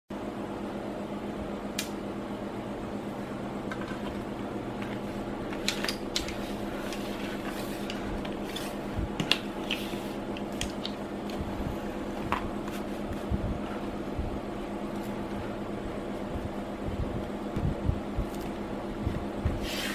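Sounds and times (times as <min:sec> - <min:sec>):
steady low hum: 0:00.1 - 0:19.9.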